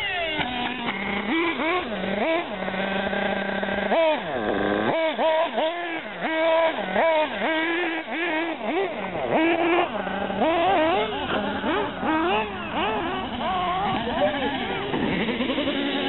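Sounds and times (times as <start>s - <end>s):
rc buggy motors whining: 0.0s - 16.0s.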